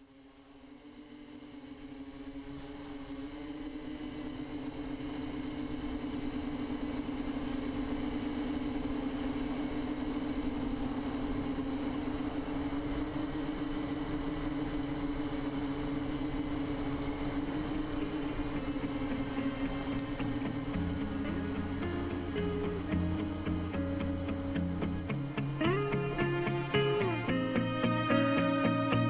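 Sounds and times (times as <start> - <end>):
drone propellers humming: 0.0 - 29.0.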